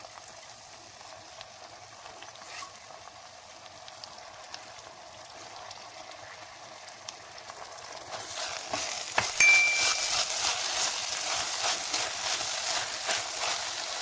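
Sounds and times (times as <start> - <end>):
food sizzling in a pot: 0.0 - 14.0
small crackles: 1.0 - 9.4, 10.1 - 14.0.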